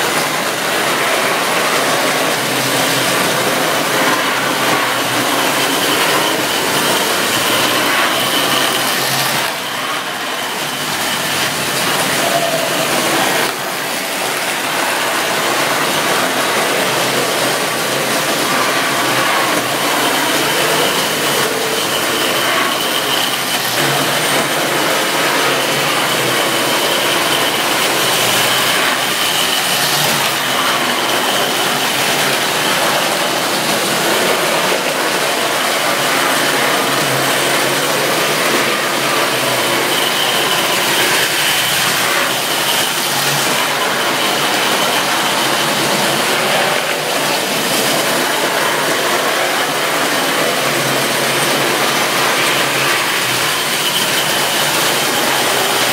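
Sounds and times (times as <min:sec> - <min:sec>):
high motor whine: 0:00.0 - 0:55.9
metal wheels rolling on rail: 0:00.0 - 0:55.9.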